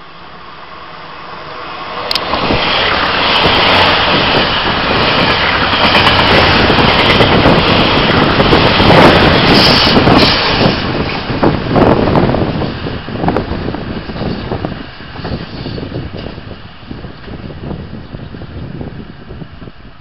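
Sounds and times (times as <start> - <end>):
train clattering over rails: 1.4 - 18.6.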